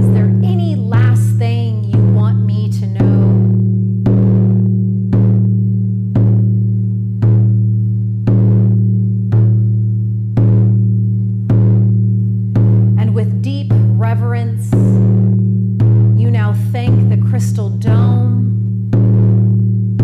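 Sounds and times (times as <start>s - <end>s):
low steady hum: 0.0s - 20.0s
slow deep drumbeat: 0.0s - 20.0s.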